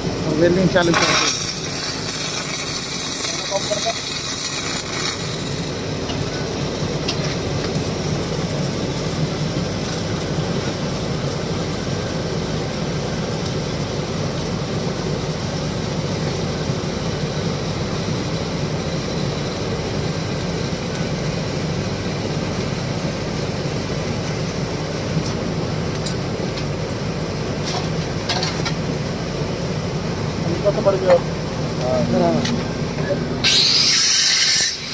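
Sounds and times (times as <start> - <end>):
welding arc crackling: 0.0 - 34.9.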